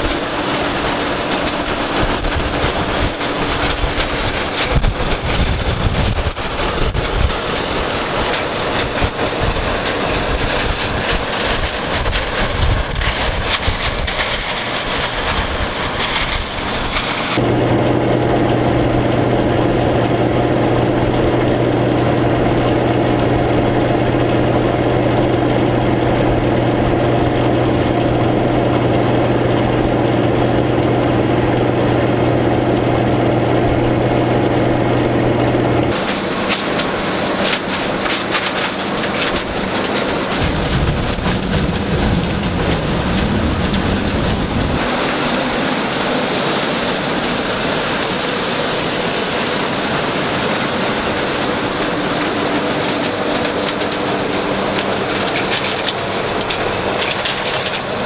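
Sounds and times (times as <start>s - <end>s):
combine machine hum: 0.0s - 58.0s
corn pouring into tank: 0.0s - 58.0s
rough rumble with crackling: 0.0s - 58.0s.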